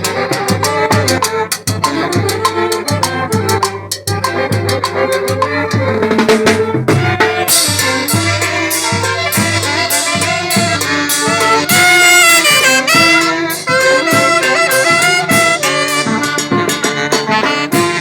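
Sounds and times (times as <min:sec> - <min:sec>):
saxophone and brass melody: 0:00.0 - 0:18.0
steady drum beat: 0:00.0 - 0:18.0.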